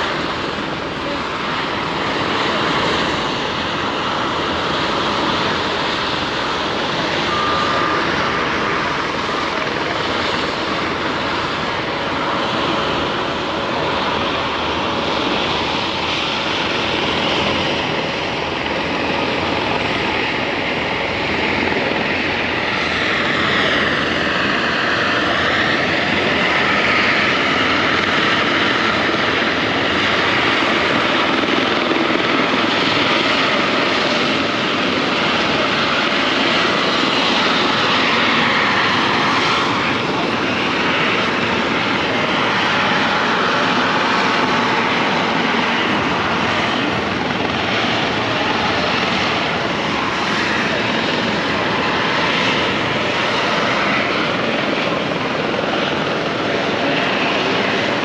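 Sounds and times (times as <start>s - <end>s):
ferry engine drone: 0.0s - 58.0s
rushing wind and water: 0.0s - 58.0s.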